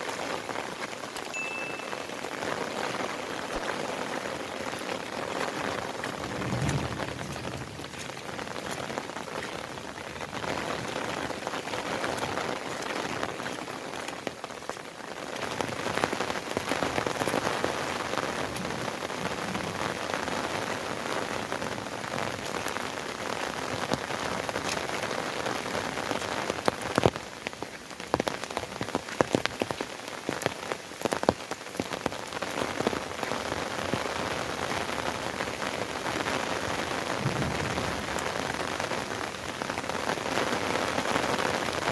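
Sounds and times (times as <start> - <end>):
rain falling on surfaces: 0.0 - 41.9
sharp raindrop hits: 0.0 - 41.9.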